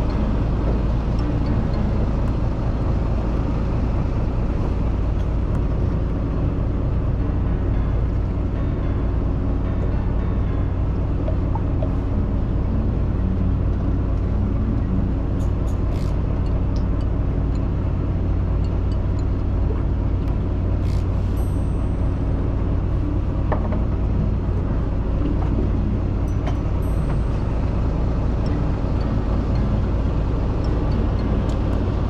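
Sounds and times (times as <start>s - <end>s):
boat engine idling: 0.0s - 32.0s.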